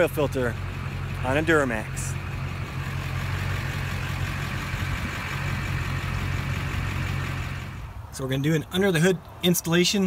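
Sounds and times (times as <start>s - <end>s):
diesel engine idling: 0.0s - 8.9s.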